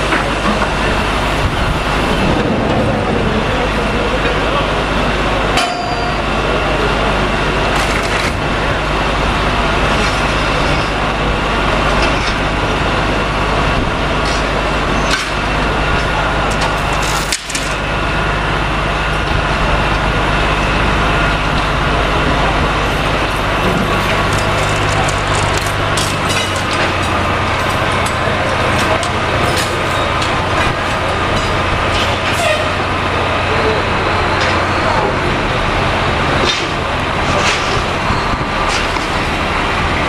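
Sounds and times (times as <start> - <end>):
low machinery hum: 0.0 - 40.0.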